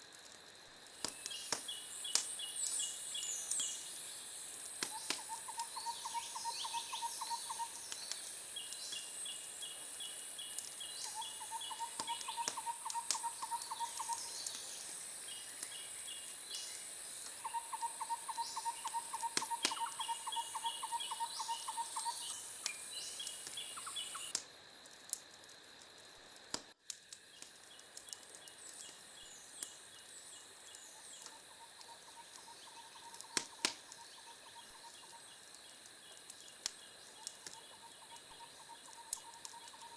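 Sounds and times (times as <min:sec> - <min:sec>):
insects chirping in pulsed trills: 0:00.0 - 0:39.9
wood fire popping: 0:00.1 - 0:06.4, 0:07.4 - 0:17.4, 0:18.8 - 0:20.2, 0:21.3 - 0:39.9.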